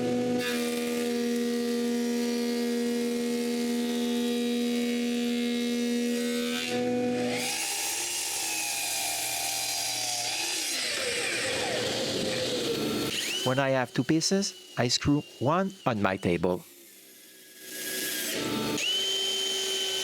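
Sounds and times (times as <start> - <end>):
power woodworking tool whine: 0.0 - 20.0.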